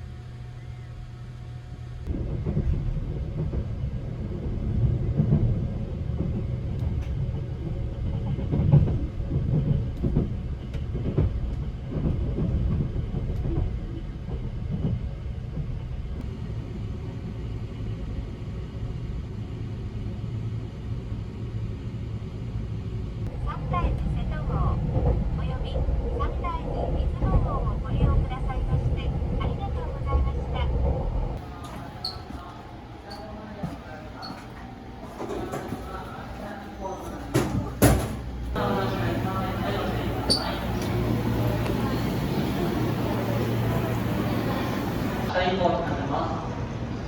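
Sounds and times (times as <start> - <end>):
train rumbling on track: 0.0 - 47.0.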